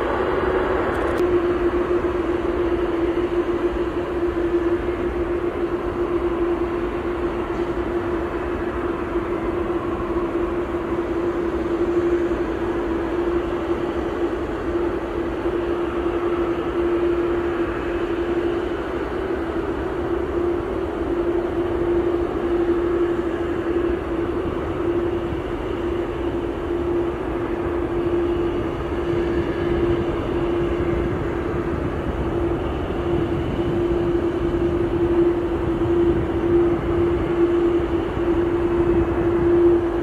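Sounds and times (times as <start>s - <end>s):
jet engines hum: 0.0s - 40.0s.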